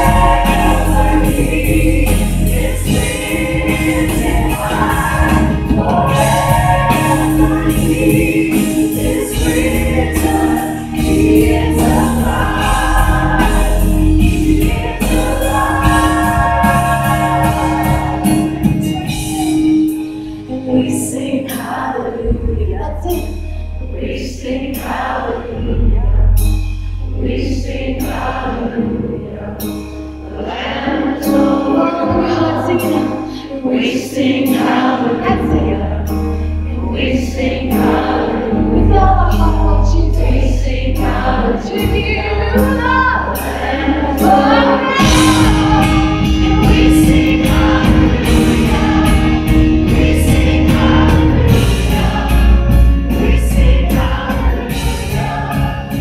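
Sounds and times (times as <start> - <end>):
women singing into microphones: 0.0 - 19.3, 20.5 - 23.3, 27.2 - 36.2, 36.8 - 56.0
acoustic guitar: 0.0 - 56.0
bass holding long low notes: 0.0 - 56.0.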